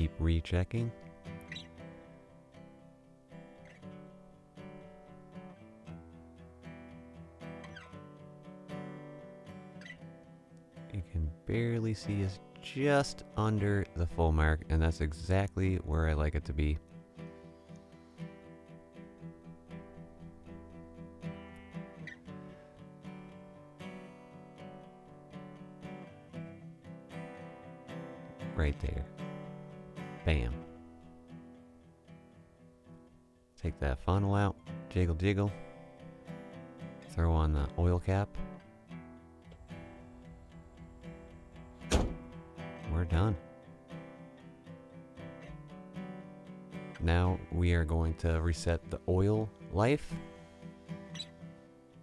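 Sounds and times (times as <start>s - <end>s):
acoustic guitar strumming chords: 0.0s - 52.0s.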